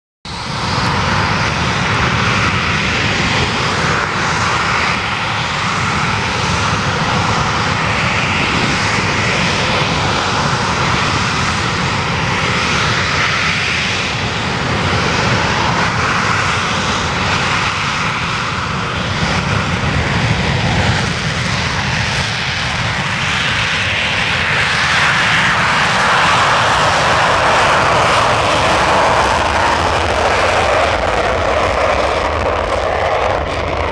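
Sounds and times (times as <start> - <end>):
jet engines in afterburner: 0.3 - 33.9.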